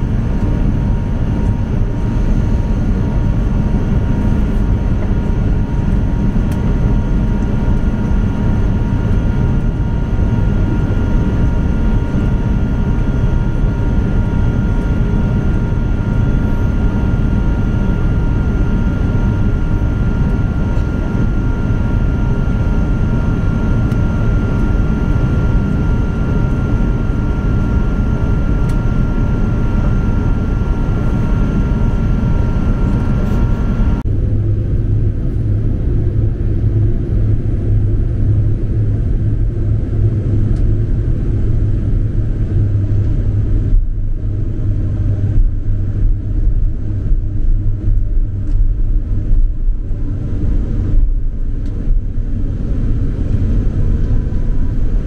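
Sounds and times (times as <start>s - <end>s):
aircraft cabin rumble with whine: 0.0s - 55.0s.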